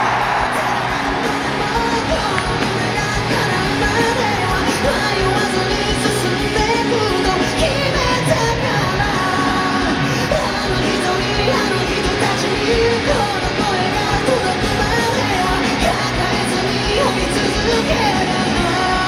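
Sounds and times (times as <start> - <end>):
live rock band music: 0.0 - 19.0
man singing: 0.5 - 19.0.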